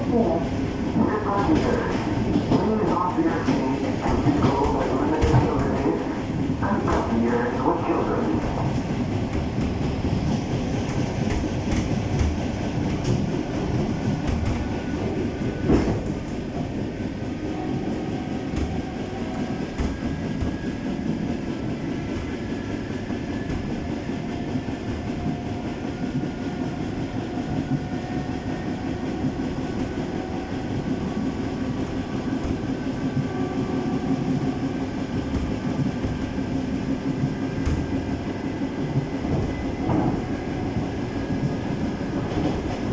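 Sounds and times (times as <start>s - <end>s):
clickety-clack over rail joints: 0.0s - 42.9s
train wheels rumbling on rail: 0.0s - 42.9s.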